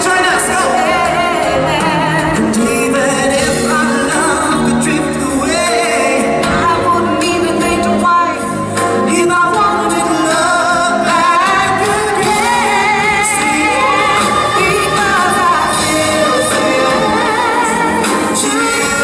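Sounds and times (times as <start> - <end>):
backing band playing: 0.0 - 19.0
people singing pop ballad: 0.0 - 19.0.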